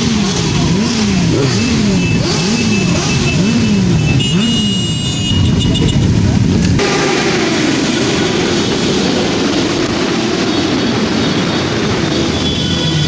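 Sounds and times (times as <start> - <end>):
many motorcycles running: 0.0 - 13.0
motorcycle engine revving: 0.0 - 13.0.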